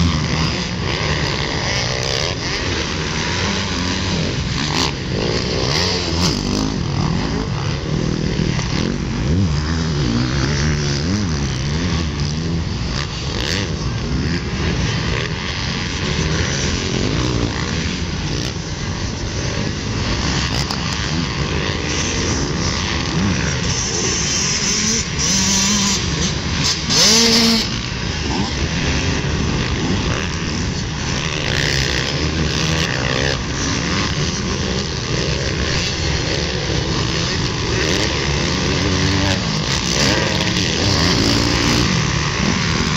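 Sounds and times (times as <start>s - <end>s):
dirt bike engines revving: 0.0s - 42.9s
loud rush of noise: 0.0s - 42.9s.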